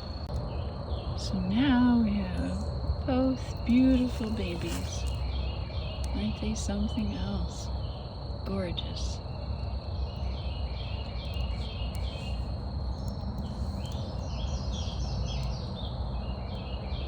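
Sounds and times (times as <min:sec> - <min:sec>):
low rumbling background: 0:00.0 - 0:17.0
songbird singing: 0:00.0 - 0:17.0.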